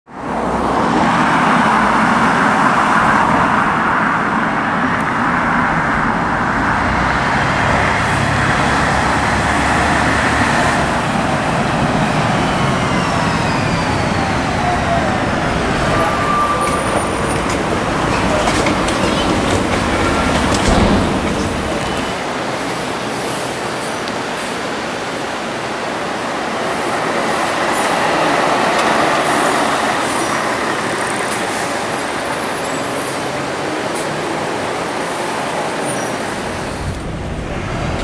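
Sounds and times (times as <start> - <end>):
bus engine and road noise: 0.1 - 38.0.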